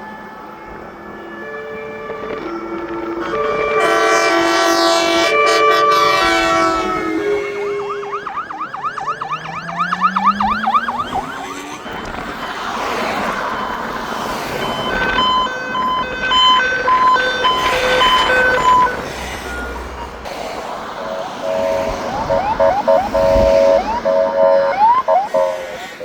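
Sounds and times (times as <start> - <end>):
two-tone hi-lo siren: 0.0 - 20.1, 20.8 - 26.0
slower rising siren tone: 0.3 - 20.1, 20.8 - 26.0
fast yelp siren: 2.8 - 19.8, 20.9 - 26.0.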